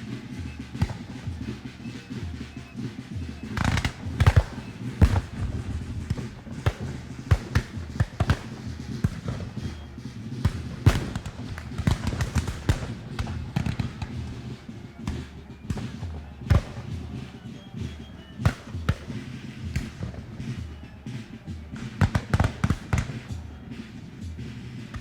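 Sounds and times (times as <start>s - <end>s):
gunshots: 0.0s - 25.0s.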